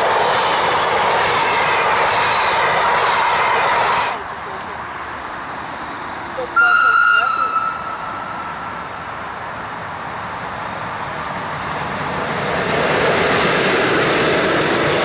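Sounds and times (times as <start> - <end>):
train rushing on rails: 0.0 - 15.0.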